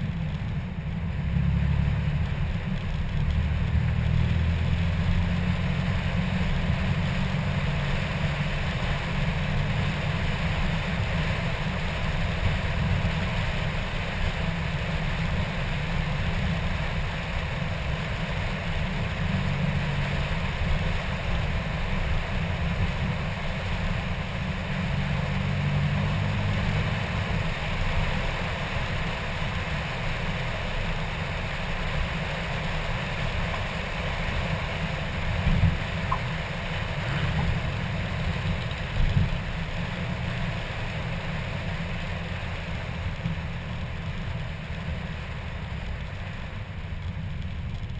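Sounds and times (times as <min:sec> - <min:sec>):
engine and wind rumble: 0:00.0 - 0:47.9
road and air hiss: 0:03.6 - 0:47.1.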